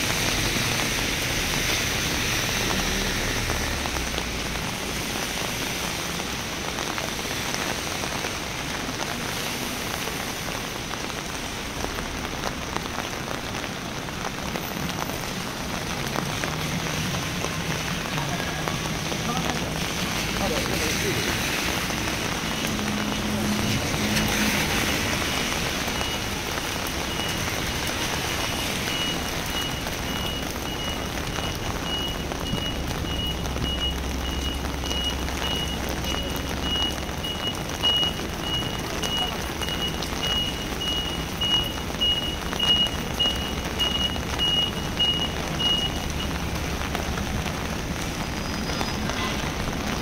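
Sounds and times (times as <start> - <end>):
heavy rain: 0.0 - 50.0
low traffic rumble: 0.0 - 50.0.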